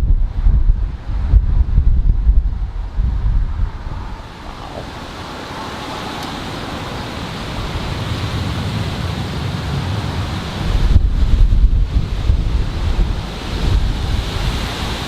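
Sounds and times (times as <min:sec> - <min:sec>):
strong wind rushing: 0:00.0 - 0:15.0
wind rumbling on microphone: 0:00.0 - 0:15.0.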